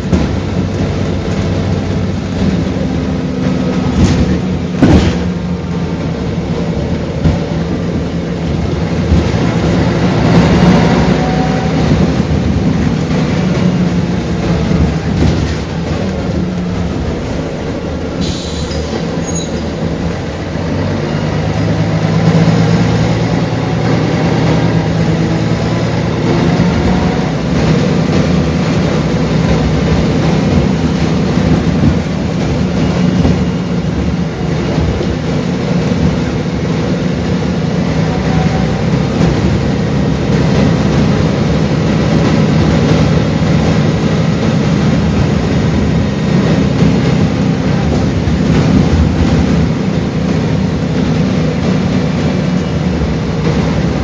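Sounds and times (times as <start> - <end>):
bus diesel engine droning: 0.0 - 54.0
road noise: 0.0 - 54.0.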